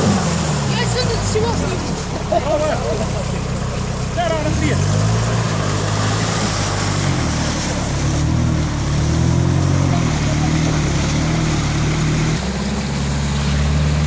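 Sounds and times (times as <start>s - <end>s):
engine pulling at low revs: 0.0s - 14.0s
water rushing and splashing: 0.0s - 14.0s.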